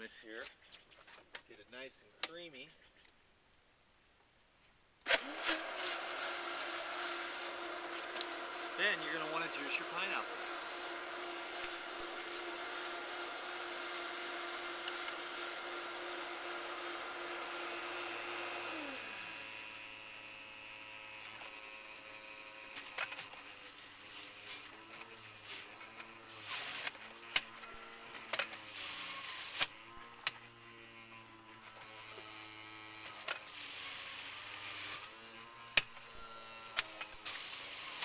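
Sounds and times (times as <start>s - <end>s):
electric juicer motor running: 5.1s - 38.0s.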